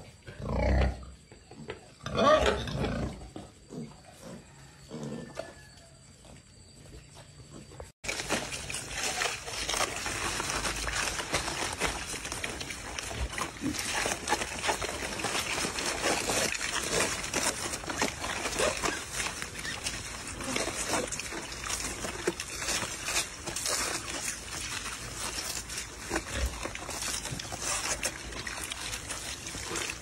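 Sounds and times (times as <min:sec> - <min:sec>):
piglets grunting and squeaking: 0:01.8 - 0:05.3, 0:09.0 - 0:30.0
chewing and rustling: 0:03.7 - 0:30.0.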